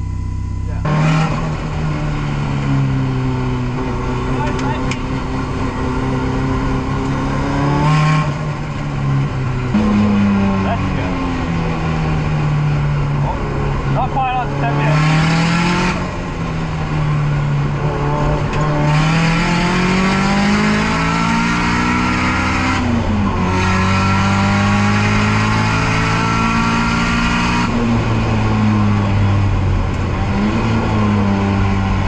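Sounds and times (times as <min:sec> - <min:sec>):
car engine revving hard: 0:00.7 - 0:32.0.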